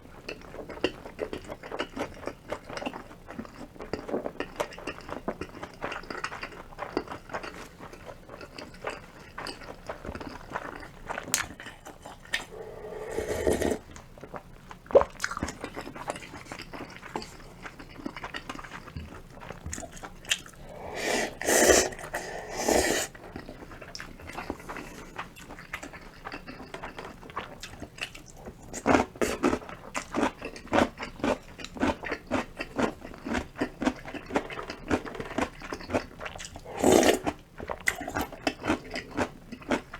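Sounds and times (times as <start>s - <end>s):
close chewing with crunches: 0.0s - 39.9s.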